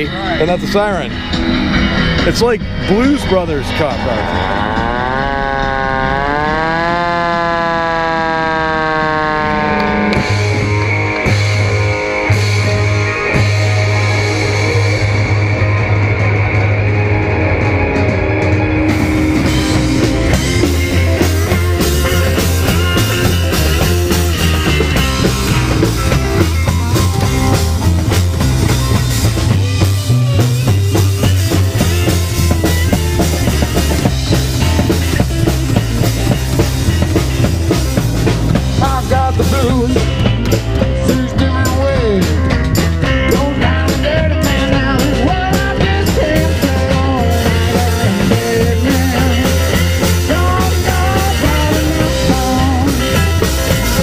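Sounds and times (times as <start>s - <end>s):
rockabilly band playing: 0.0s - 54.0s.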